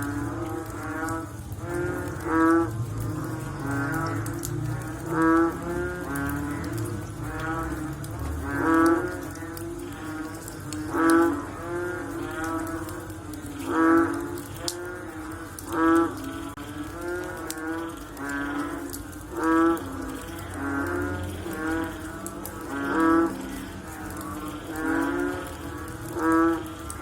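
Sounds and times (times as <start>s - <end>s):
frogs calling: 0.0s - 27.0s.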